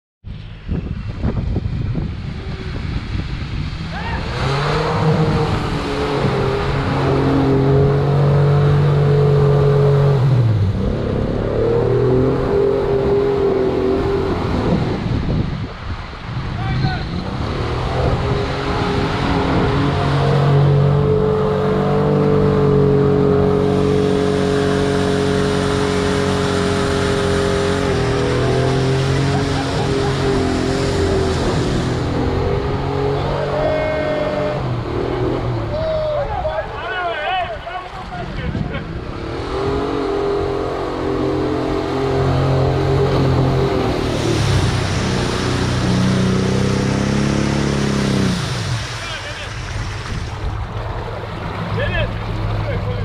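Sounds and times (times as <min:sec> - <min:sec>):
car engine at high revs: 0:00.8 - 0:36.0, 0:38.4 - 0:53.0
mud splashing from tyres: 0:02.0 - 0:53.0.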